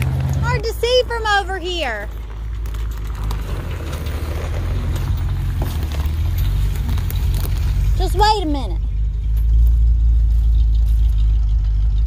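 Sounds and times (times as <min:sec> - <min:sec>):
dump truck engine rumbling: 0:00.0 - 0:12.0.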